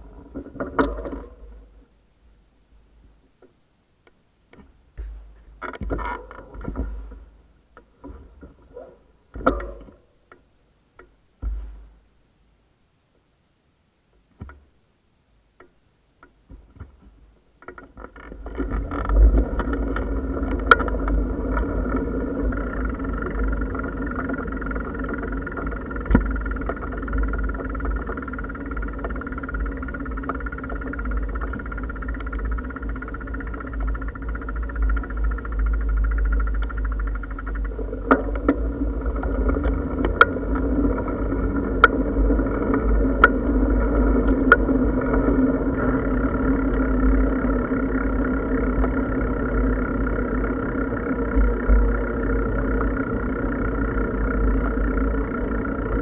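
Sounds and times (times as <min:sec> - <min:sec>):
bicycle rattles: 0:00.0 - 0:01.9, 0:04.5 - 0:10.4, 0:16.2 - 0:56.0
bicycle rolling: 0:00.0 - 0:02.1, 0:04.5 - 0:10.5, 0:16.2 - 0:56.0.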